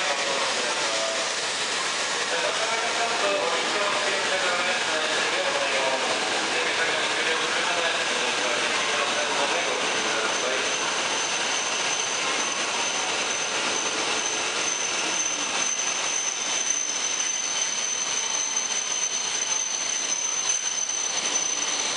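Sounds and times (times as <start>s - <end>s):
train wheels rushing: 0.0s - 21.9s.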